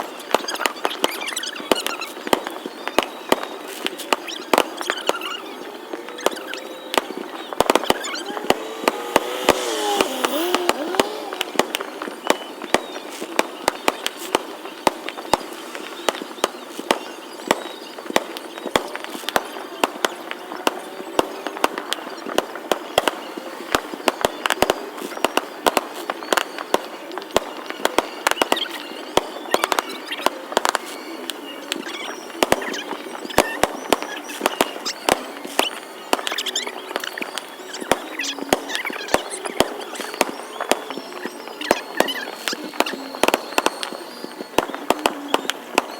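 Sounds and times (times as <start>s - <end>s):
fireworks bangs and pops: 0.0s - 45.9s.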